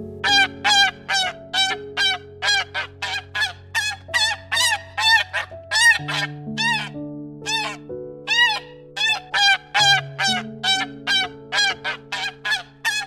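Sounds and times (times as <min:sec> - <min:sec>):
music with low held chords: 0:00.0 - 0:13.0
bird calling: 0:00.2 - 0:13.0.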